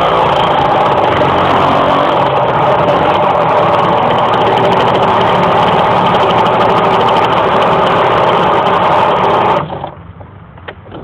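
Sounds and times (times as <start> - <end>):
moped engine running high: 0.0 - 10.0.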